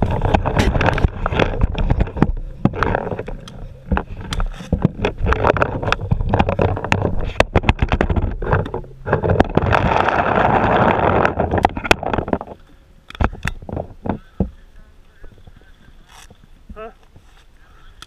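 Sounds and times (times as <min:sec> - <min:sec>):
rush of noise: 0:00.0 - 0:16.0
low rumble: 0:00.0 - 0:16.6.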